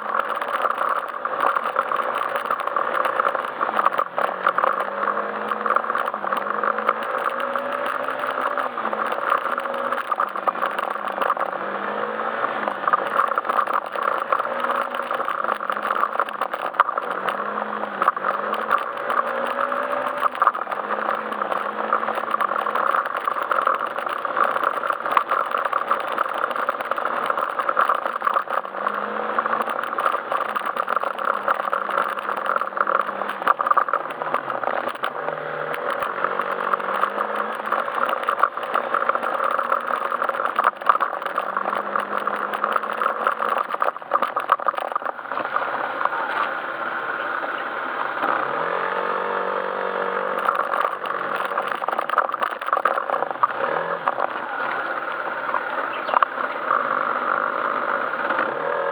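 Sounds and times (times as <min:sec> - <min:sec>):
rattle and clatter: 0:00.0 - 0:58.9
scooter engine running: 0:00.0 - 0:58.9.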